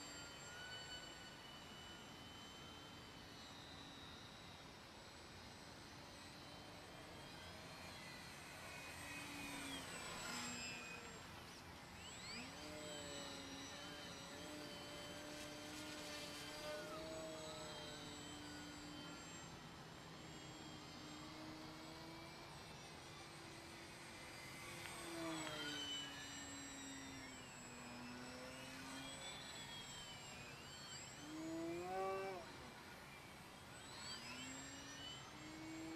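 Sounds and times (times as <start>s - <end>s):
model plane motor whine: 0.0s - 35.9s.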